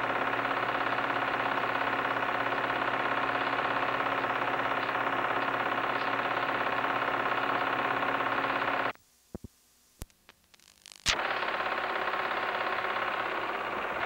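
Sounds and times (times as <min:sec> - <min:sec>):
film projector whirring: 0:00.0 - 0:09.0, 0:10.6 - 0:14.0.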